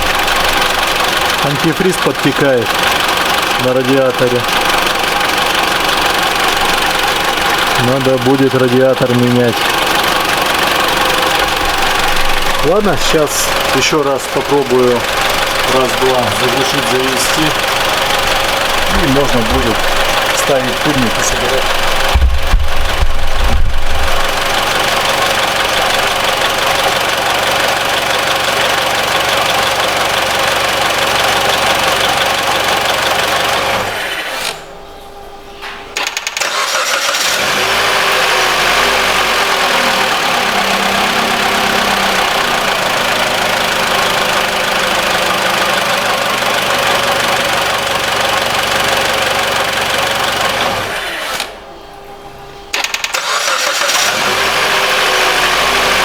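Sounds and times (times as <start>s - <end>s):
car engine idling: 0.0s - 33.9s, 36.0s - 50.8s, 52.7s - 56.0s
starter motor cranking: 0.0s - 34.7s, 36.0s - 51.6s, 52.7s - 56.0s.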